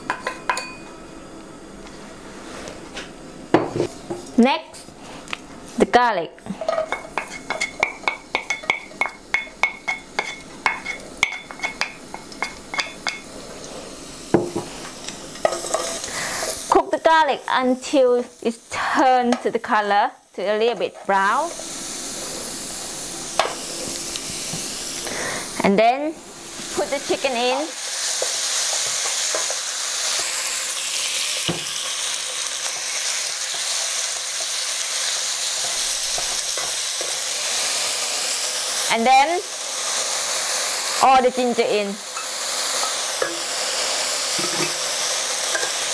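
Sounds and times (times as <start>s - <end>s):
garlic sizzling in oil: 6.6s - 45.9s.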